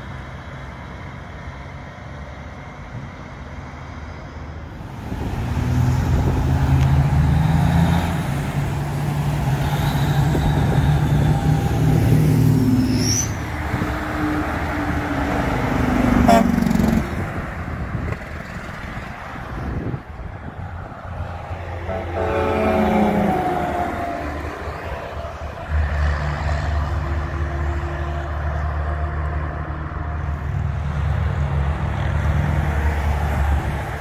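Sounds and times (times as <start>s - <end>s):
heavy diesel trucks driving: 0.0s - 34.0s.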